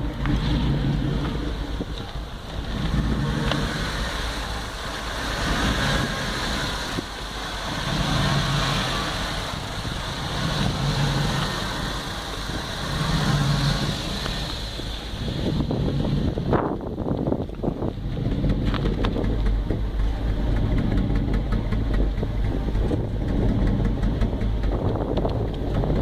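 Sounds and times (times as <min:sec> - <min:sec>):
car engine idling with surge: 0:00.0 - 0:26.0.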